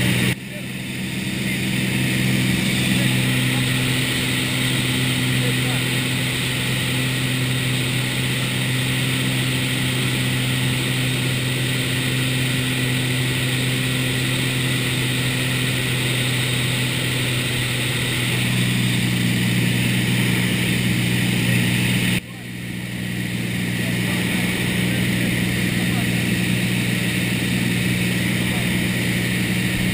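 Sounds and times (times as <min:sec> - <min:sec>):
airplane engine and propeller droning: 0:00.0 - 0:29.9.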